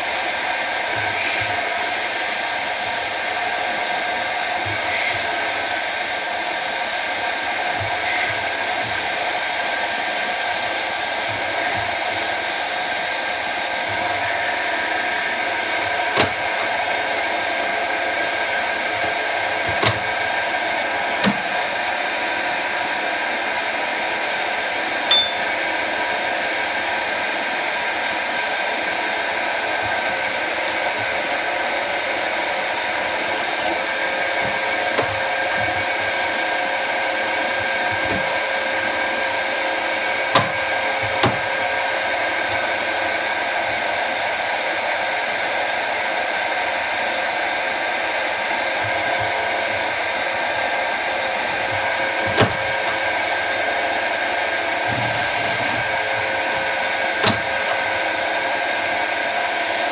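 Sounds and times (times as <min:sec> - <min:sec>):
lathe whirring: 0:00.0 - 0:59.9.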